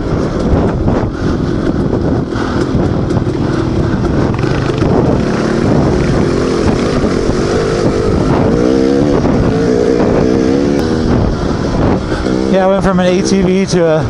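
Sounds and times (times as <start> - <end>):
dirt bike engine revving: 1.4 - 13.8.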